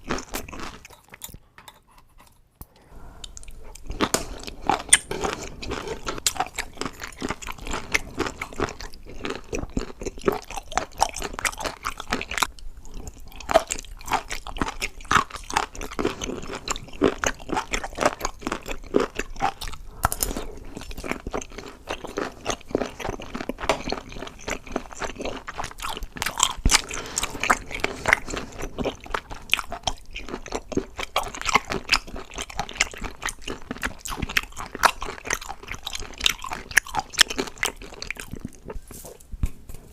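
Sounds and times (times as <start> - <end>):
crunchy chewing of crisp food: 0.0 - 2.4, 3.2 - 39.9.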